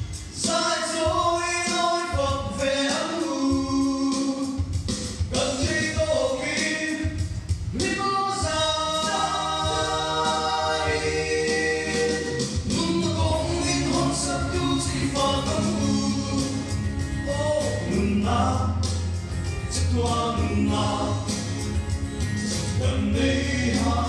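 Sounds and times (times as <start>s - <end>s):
male vocal group singing in harmony: 0.3s - 21.8s, 22.5s - 24.0s.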